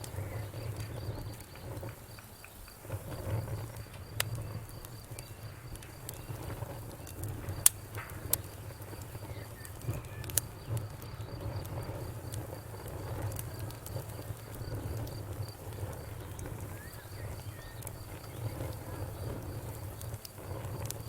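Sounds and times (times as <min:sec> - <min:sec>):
sharp pops of fire: 0:00.0 - 0:21.0
wood fire crackling: 0:00.0 - 0:21.0.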